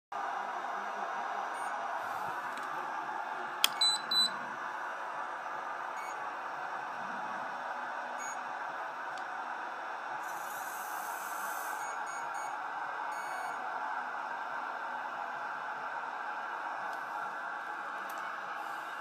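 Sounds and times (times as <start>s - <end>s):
steady background hum: 0.2s - 19.0s.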